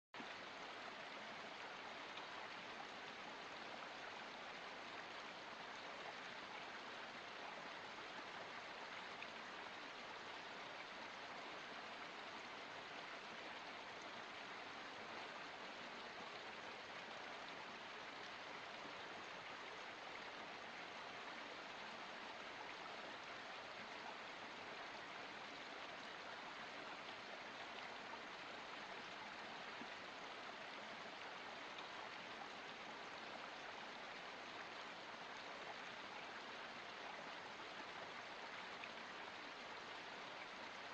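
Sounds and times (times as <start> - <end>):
stream water flowing: 0.2 - 40.9.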